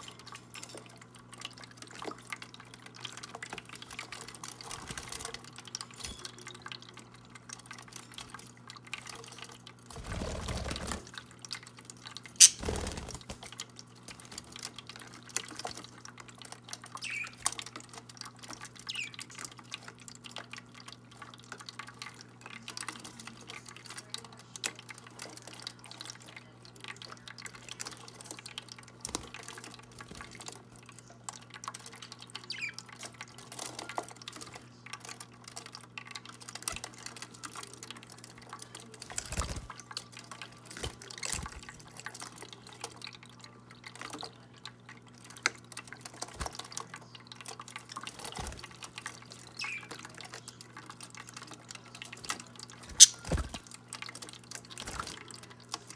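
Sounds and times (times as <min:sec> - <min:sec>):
fountain water trickling: 0:00.0 - 0:55.9.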